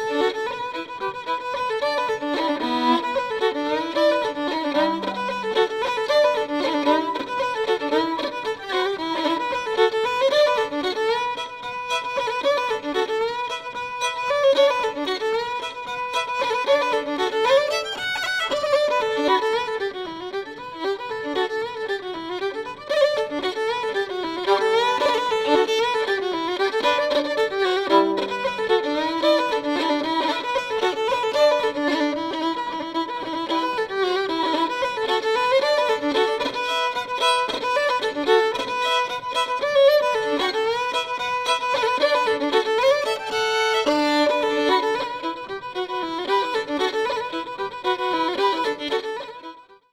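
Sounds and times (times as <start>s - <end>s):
fiddle-led instrumental tune: 0.0s - 49.9s.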